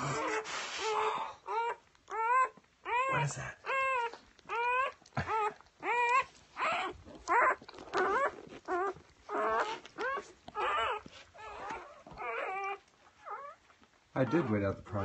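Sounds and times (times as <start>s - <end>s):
puppy crying in high squeals: 0.0s - 13.6s, 14.2s - 15.0s.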